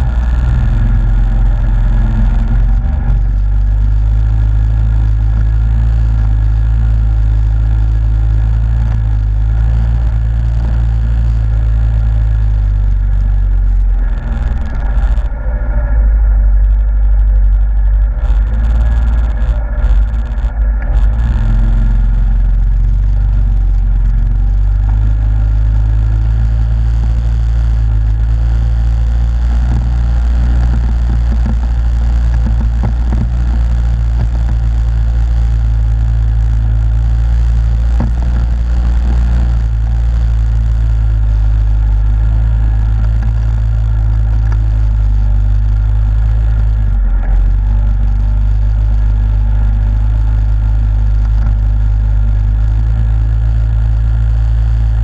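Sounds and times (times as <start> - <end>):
atv engine droning: 0.0 - 55.0.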